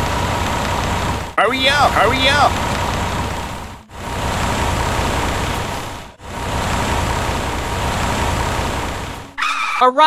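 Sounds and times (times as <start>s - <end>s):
truck engine running: 0.0s - 9.6s.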